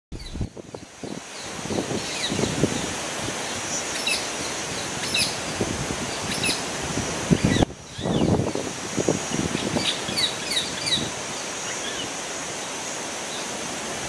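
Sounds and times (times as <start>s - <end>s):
steady outdoor hiss: 0.1s - 14.0s
wild birds chirping: 0.2s - 13.7s.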